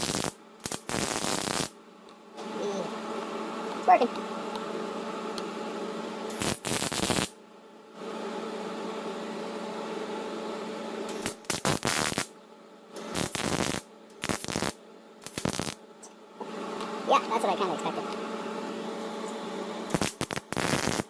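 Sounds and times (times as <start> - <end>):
arc welder buzzing and crackling: 0.0 - 7.4, 10.9 - 21.0.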